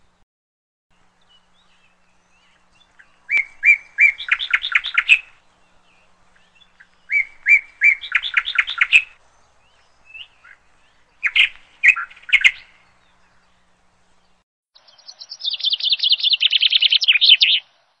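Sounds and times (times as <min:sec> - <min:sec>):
small birds chirping: 0:00.9 - 0:18.0
rapid bird trill: 0:01.4 - 0:13.8, 0:14.8 - 0:17.7.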